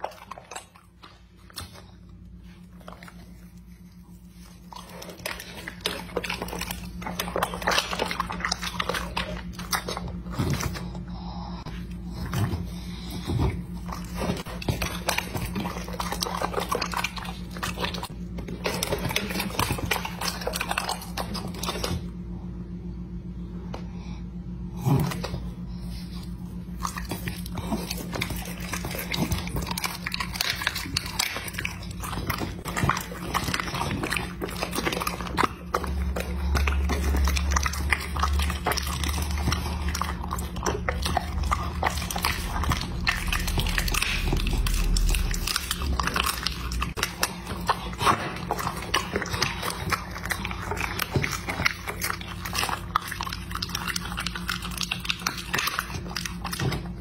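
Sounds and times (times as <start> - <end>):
dog chewing raw chicken: 0.0 - 22.4, 24.7 - 57.0.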